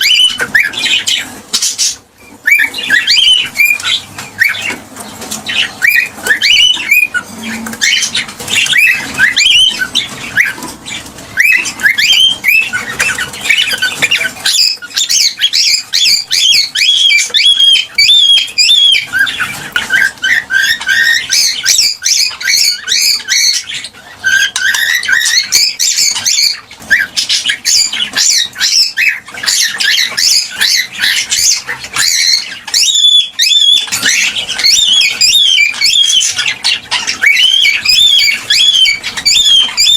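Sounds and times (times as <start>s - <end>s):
cockatiel chirping: 0.0s - 39.9s.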